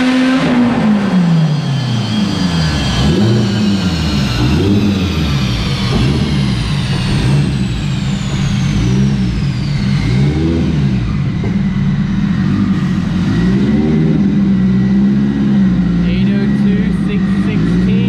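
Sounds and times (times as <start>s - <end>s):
car engine revving: 0.0s - 18.0s
turbo whine: 0.0s - 18.0s.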